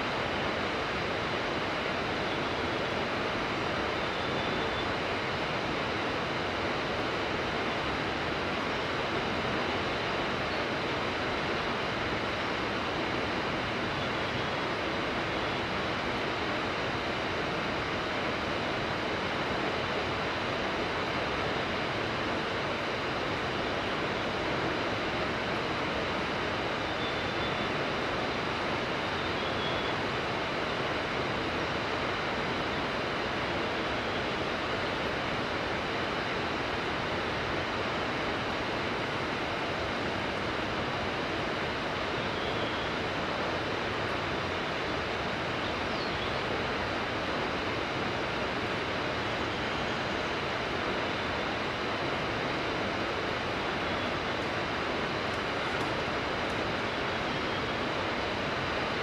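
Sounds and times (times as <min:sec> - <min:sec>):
mountain river rushing: 0:00.0 - 0:59.0.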